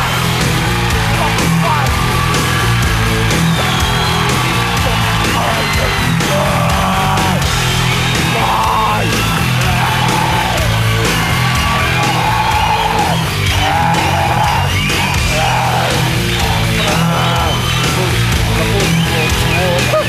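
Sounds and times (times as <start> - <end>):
heavy rock music: 0.0 - 20.0.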